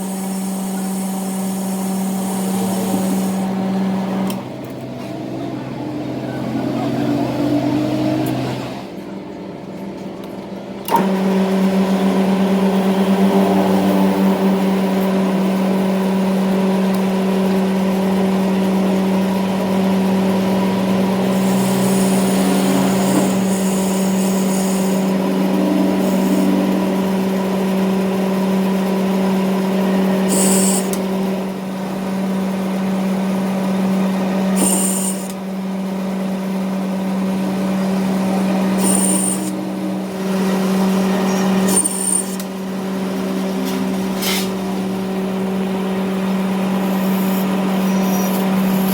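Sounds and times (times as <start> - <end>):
workshop machine humming: 0.0 - 48.9.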